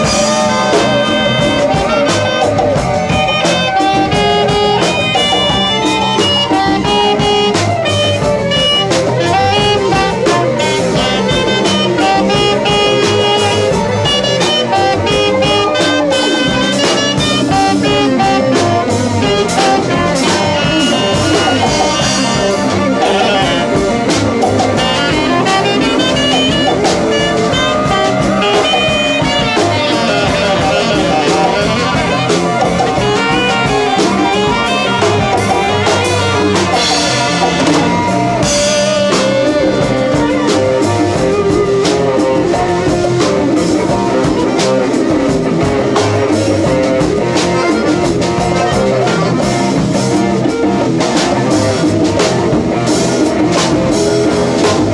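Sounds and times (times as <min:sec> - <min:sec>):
drum kit: 0:00.0 - 0:54.9
saxophone: 0:00.0 - 0:54.9.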